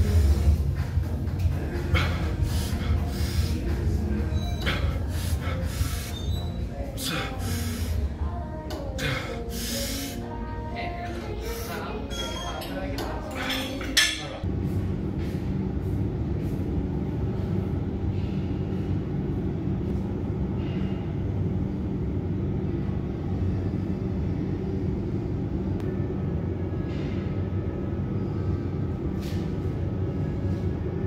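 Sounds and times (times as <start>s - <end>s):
vehicle rumbling in motion: 0.0s - 31.0s.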